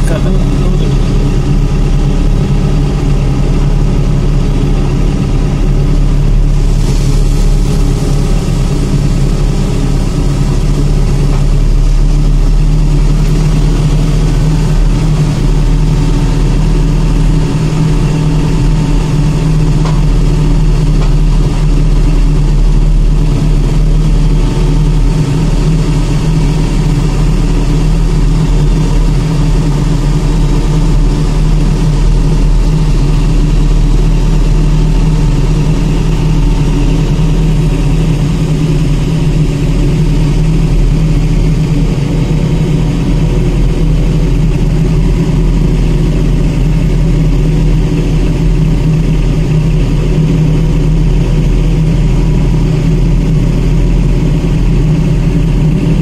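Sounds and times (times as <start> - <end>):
pushback tug engine running: 0.0 - 56.0.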